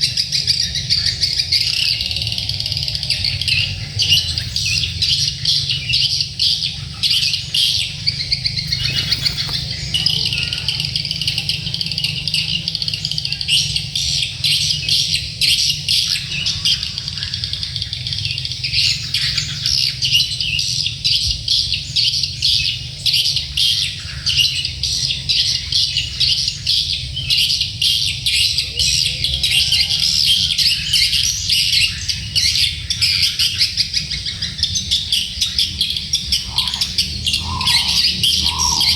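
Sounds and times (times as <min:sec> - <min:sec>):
birds chirping rapidly: 0:00.0 - 0:38.9.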